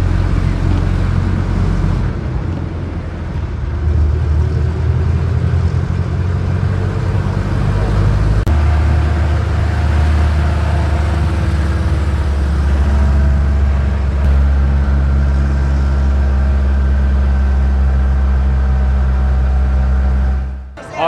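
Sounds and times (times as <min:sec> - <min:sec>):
vehicle engine running: 0:00.0 - 0:20.8.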